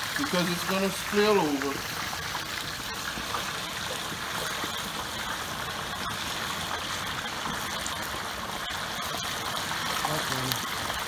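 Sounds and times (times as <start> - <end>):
oil sizzling around frying turkey: 0.0 - 11.0.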